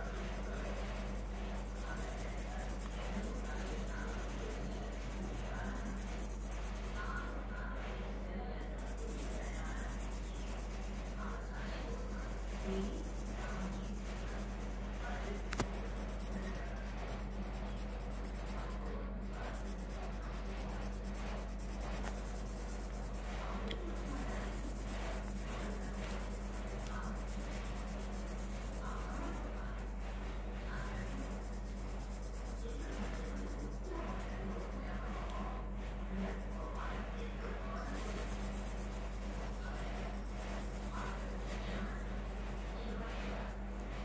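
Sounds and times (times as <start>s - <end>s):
pen scratching on paper: 0.0s - 44.0s
steady low hum: 0.0s - 44.0s.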